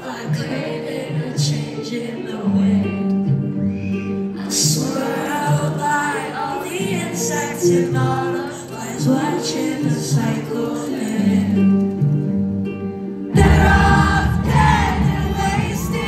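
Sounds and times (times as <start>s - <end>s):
woman singing: 0.0s - 3.5s, 4.2s - 12.1s, 13.3s - 16.0s
live pop music: 0.0s - 16.0s.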